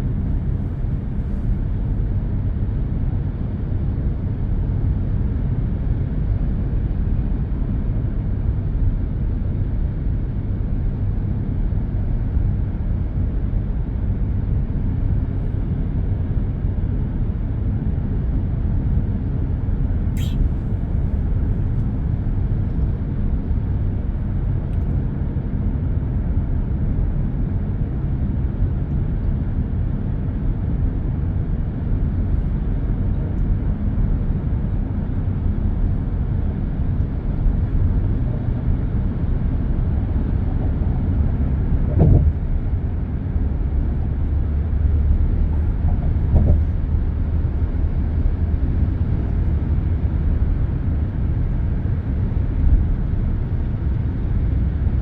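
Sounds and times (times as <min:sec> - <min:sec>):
dense expressway traffic: 0:00.0 - 0:55.0.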